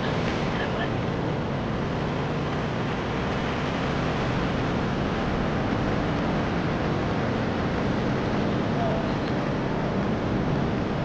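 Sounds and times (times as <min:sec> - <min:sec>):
motorcycle engine and road noise: 0:00.0 - 0:11.0
wind on microphone: 0:00.0 - 0:11.0.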